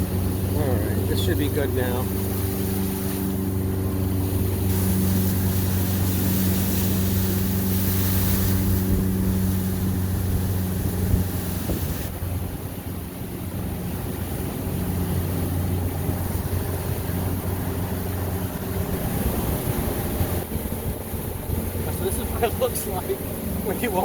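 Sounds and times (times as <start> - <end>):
motorboat engine running: 0.0 - 24.0
wind on microphone: 0.0 - 24.0.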